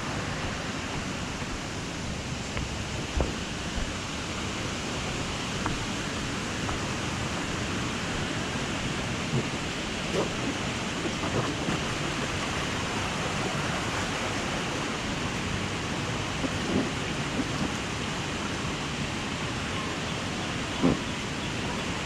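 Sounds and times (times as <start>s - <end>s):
water rushing down a slide: 0.0s - 22.0s.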